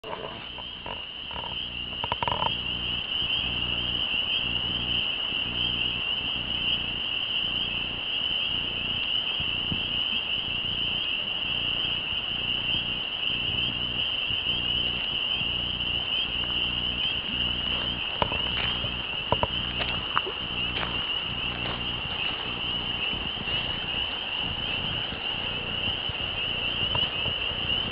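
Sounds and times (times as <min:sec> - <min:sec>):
crickets trilling: 0:00.0 - 0:27.9
low pulsing drone: 0:00.0 - 0:27.9.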